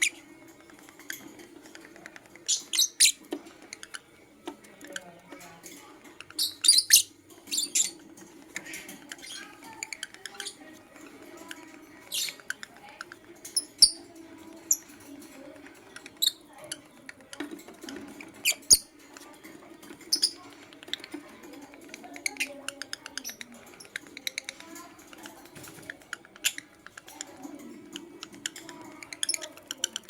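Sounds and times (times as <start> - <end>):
bird chirping and chattering: 0.0 - 30.0.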